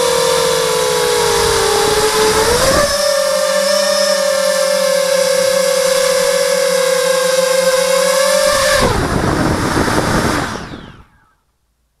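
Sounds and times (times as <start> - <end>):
drone motors whining: 0.0 - 11.5.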